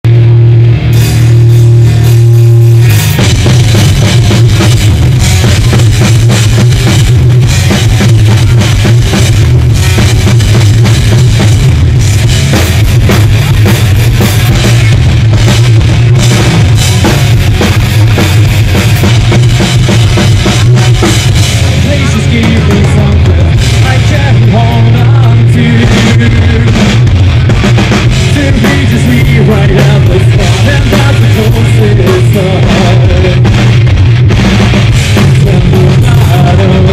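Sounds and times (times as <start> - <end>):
heavy drumming: 0.0 - 36.9
live rock band playing: 0.0 - 36.9.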